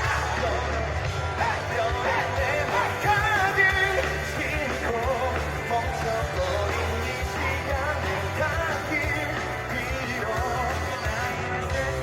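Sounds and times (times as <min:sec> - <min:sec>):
amplified band with strong bass: 0:00.0 - 0:12.0
man singing with vibrato: 0:00.0 - 0:12.0.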